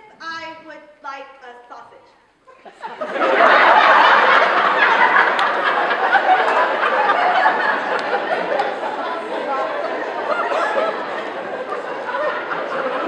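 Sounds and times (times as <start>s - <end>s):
audience laughing loudly: 2.5s - 13.0s.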